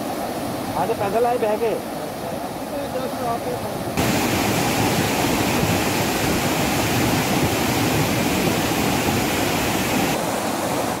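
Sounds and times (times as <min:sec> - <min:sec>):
river rushing in flood: 0:00.0 - 0:11.0.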